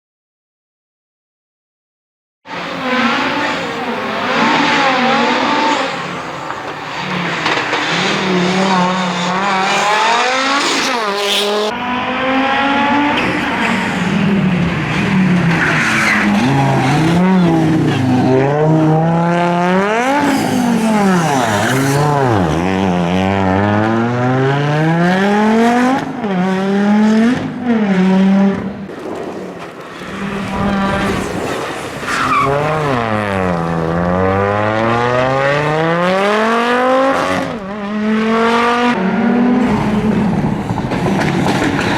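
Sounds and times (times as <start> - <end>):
rally car engine revving: 2.5 - 41.9.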